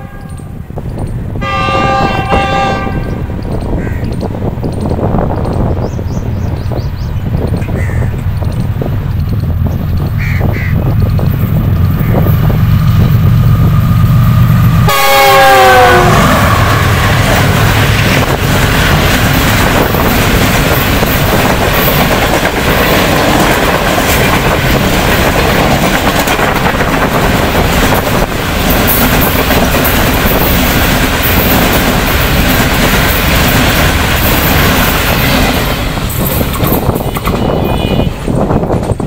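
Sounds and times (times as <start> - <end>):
train wheels running on rails: 0.0 - 39.0.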